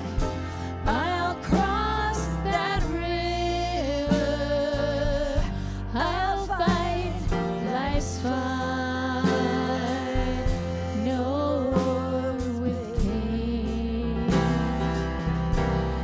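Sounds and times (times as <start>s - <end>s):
bass notes: 0.0s - 16.0s.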